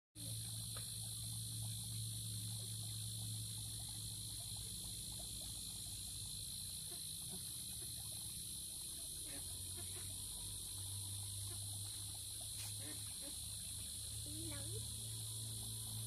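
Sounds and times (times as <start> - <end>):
high-pitched insect chorus: 0.2 - 16.0
low steady hum: 0.2 - 16.0.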